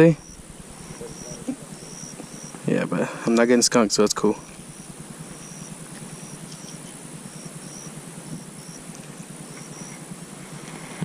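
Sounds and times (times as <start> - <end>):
faint low rumble: 0.0 - 11.0
insect chirps: 0.0 - 11.0
insects high-pitched drone: 0.0 - 11.0.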